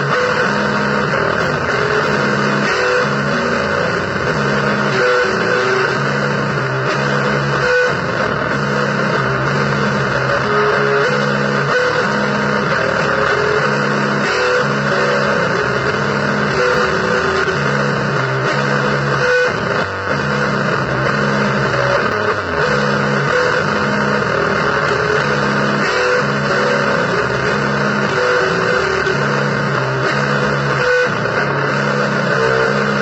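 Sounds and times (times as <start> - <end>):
distorted electric guitar blues: 0.0 - 33.0.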